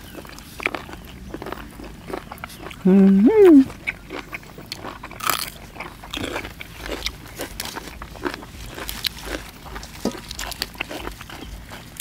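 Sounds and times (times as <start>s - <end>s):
crunchy chewing of cucumber: 0.0s - 12.0s.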